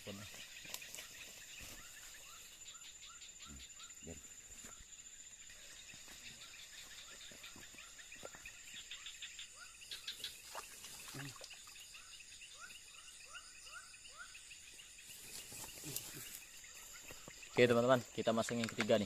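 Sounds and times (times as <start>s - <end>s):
night insects droning: 0.0s - 19.0s.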